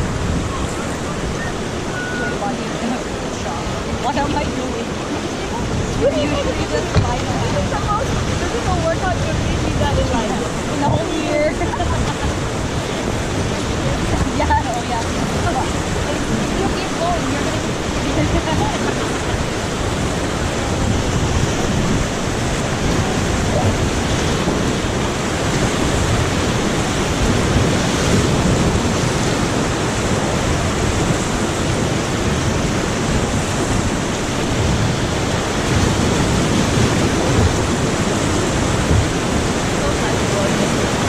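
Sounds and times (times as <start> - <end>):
white-water river rushing: 0.0 - 41.0.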